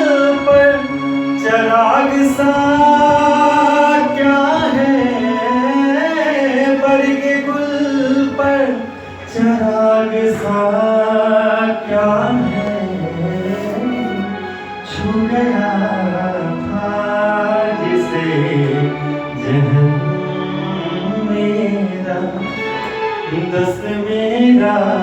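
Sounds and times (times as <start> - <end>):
musical accompaniment: 0.0 - 25.0.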